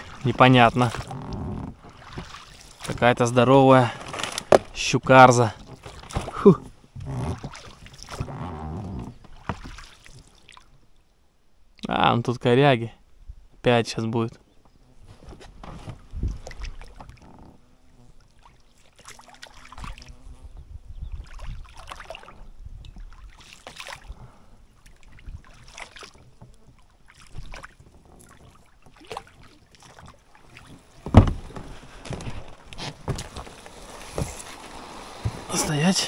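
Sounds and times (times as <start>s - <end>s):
oars rowing a boat: 0.0s - 11.0s, 14.4s - 36.0s.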